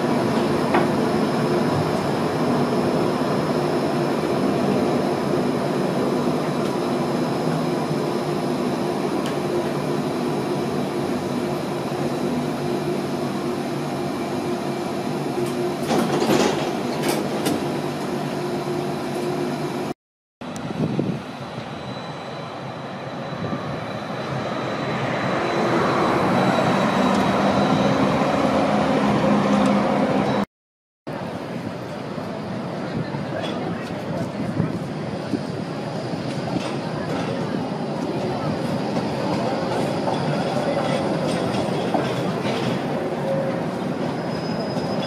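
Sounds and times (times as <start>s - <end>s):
tram motor hum and rolling noise: 0.0s - 30.4s, 31.1s - 45.0s
tram running on street track: 0.0s - 30.4s, 31.1s - 45.0s.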